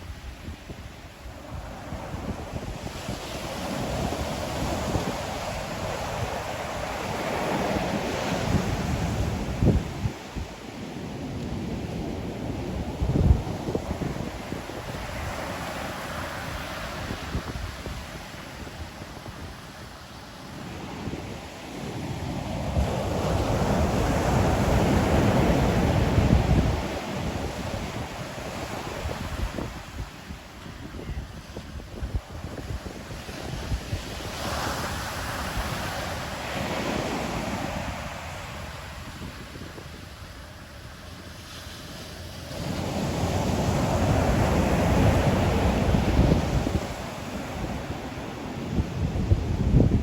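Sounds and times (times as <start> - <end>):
wind buffeting microphone: 0.0 - 40.4, 42.5 - 50.0.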